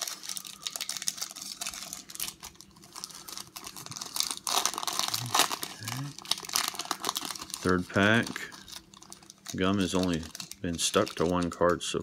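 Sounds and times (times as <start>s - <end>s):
wrapper crinkling and tearing: 0.0s - 12.0s.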